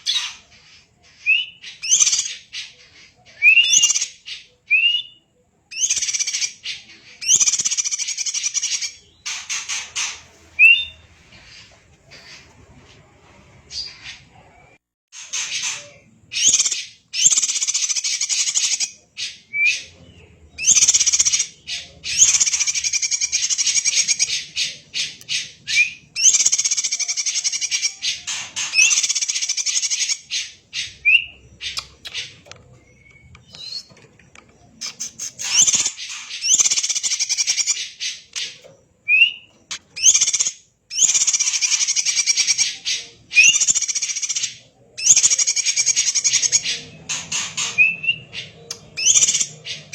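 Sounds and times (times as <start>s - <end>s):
bird singing fast chattering song: 0.0s - 12.4s, 15.1s - 49.9s.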